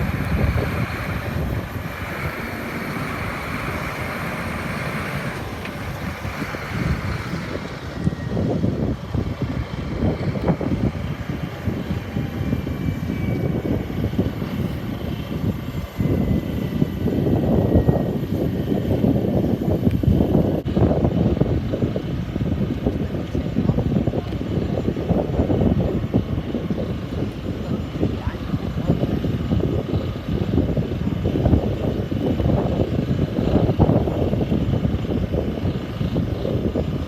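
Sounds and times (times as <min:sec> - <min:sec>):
jet engines running: 0:00.0 - 0:37.0
wind buffeting microphone: 0:00.0 - 0:37.0.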